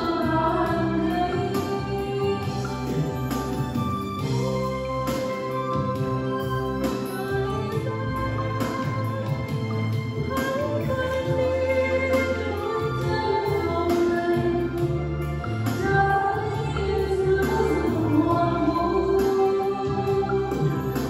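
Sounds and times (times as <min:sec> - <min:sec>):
instrumental accompaniment: 0:00.0 - 0:21.0
person singing: 0:00.0 - 0:21.0.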